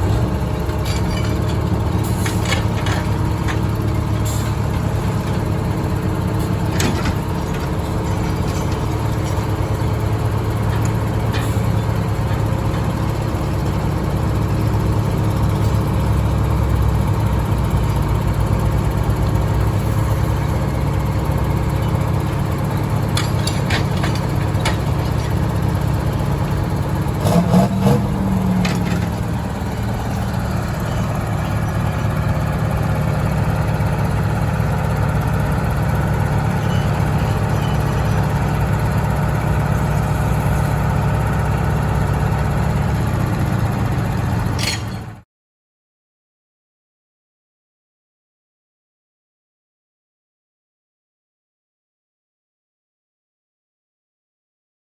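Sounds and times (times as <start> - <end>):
large old engine running: 0.0 - 45.2.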